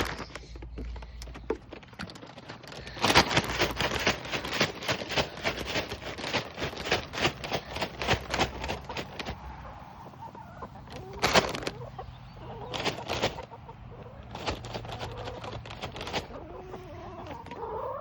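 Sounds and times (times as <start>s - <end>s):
chickens pecking at seed: 0.0s - 18.0s.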